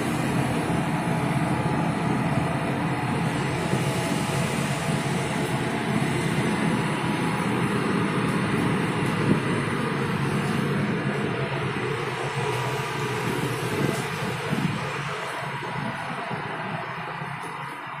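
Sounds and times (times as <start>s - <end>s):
ship engine rumble: 0.0s - 18.0s
wind and sea rushing: 0.0s - 18.0s.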